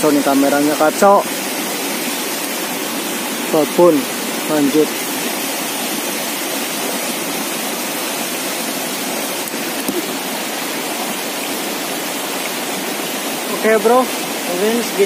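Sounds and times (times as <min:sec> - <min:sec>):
stream splashing over stones: 0:00.0 - 0:15.0.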